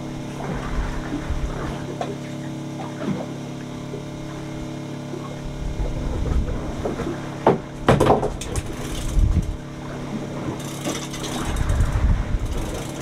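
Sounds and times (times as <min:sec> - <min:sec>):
boat engine humming: 0:00.0 - 0:13.0
sharp knocks against boat: 0:00.3 - 0:04.5, 0:05.1 - 0:13.0.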